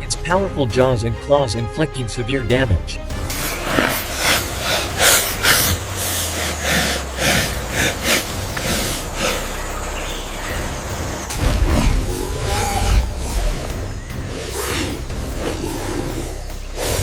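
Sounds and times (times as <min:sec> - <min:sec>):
low rumble: 0:02.4 - 0:17.0
breathy huffs and hisses: 0:03.0 - 0:17.0.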